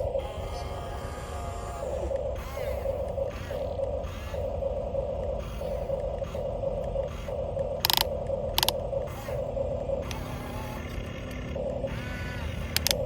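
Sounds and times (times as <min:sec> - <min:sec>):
low rumble: 0:00.0 - 0:13.0
small electric motor whirring: 0:00.0 - 0:13.0.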